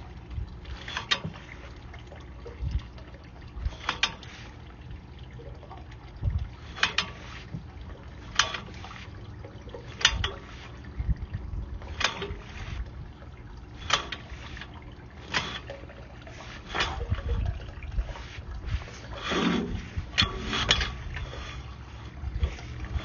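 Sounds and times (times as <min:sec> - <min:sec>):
water trickling: 0:00.0 - 0:23.0.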